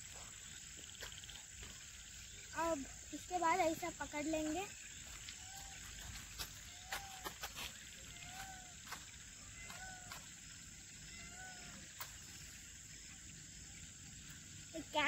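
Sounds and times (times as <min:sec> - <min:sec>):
cricket trill: 0:00.0 - 0:15.0.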